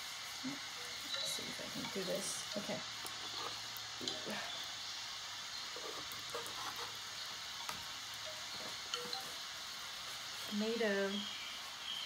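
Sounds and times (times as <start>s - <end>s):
oil sizzling on griddle: 0.0s - 12.0s.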